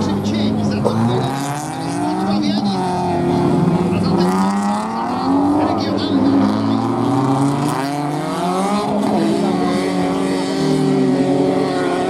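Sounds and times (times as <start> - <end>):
distant racing car engines: 0.0 - 12.0.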